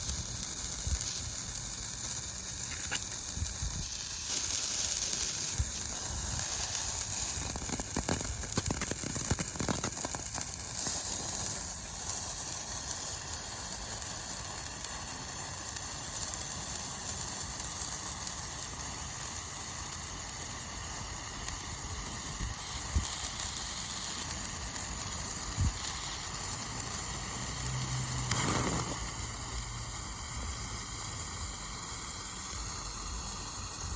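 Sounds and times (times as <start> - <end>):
sparklers fizzing and crackling: 0.0 - 33.9.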